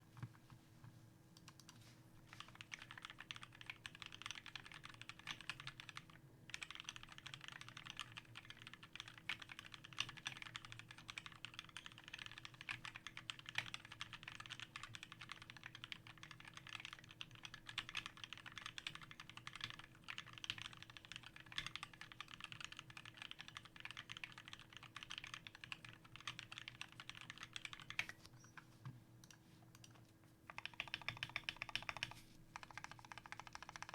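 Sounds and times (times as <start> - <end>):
mechanical keyboard typing: 1.4 - 28.2, 29.2 - 33.9.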